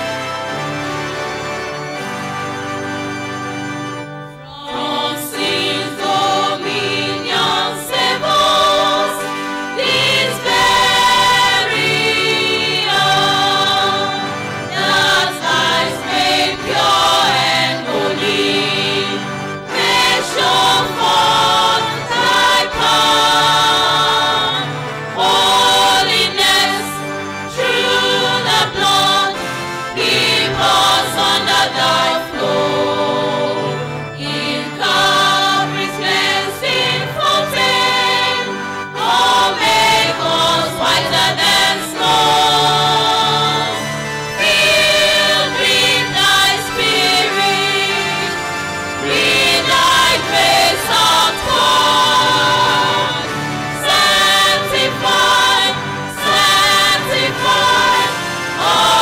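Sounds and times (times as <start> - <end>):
choir singing a hymn: 0.0 - 59.0
organ accompaniment: 0.0 - 59.0.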